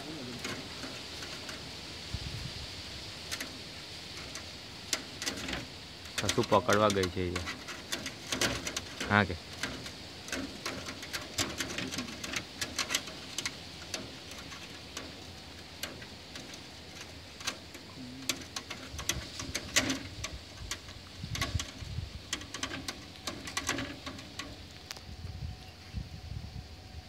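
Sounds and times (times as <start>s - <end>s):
kitten claws clicking on mesh screen: 3.2s - 25.0s.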